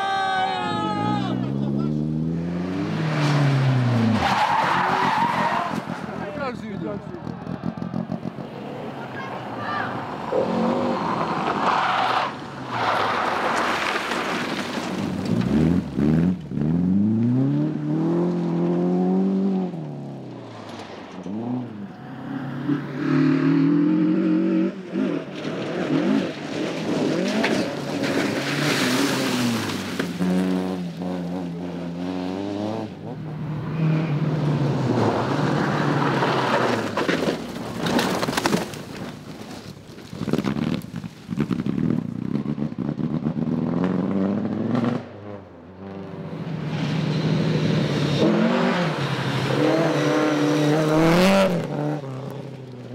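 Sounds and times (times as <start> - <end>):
tyre and road noise: 0.0 - 52.9
rally car engines revving: 0.9 - 38.6, 40.2 - 52.9.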